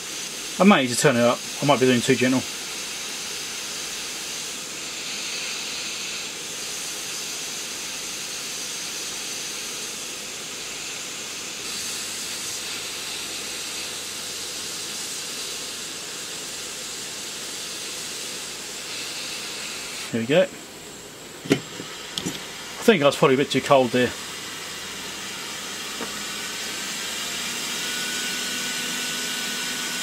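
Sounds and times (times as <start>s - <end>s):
hot air gun hissing: 0.0s - 30.0s.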